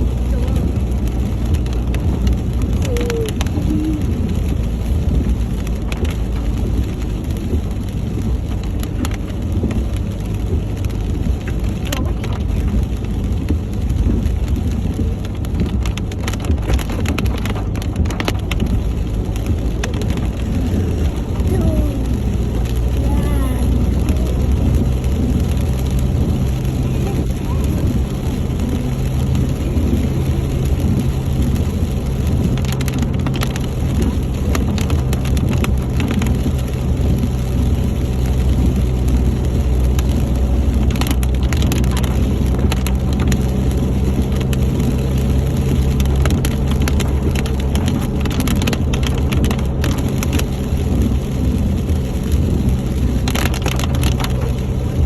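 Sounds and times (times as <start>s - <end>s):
rain striking windshield: 0.0s - 55.0s
vehicle engine and road drone: 0.0s - 55.0s.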